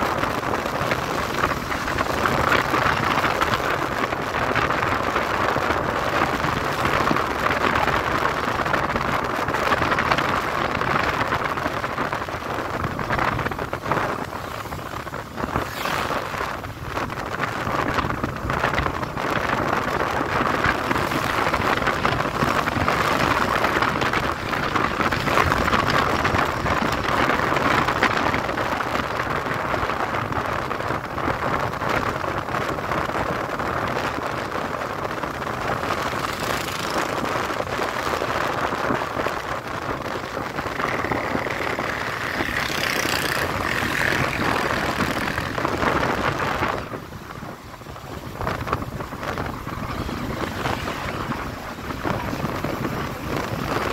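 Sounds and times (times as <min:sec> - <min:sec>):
motorcycle engine and road noise: 0:00.0 - 0:53.9
wind rushing over microphone: 0:00.0 - 0:53.9.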